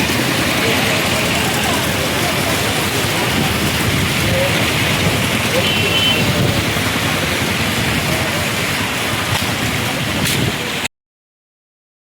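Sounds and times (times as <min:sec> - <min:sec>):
gusting wind rumble: 0:00.0 - 0:10.9
heavy rain pouring: 0:00.0 - 0:10.9.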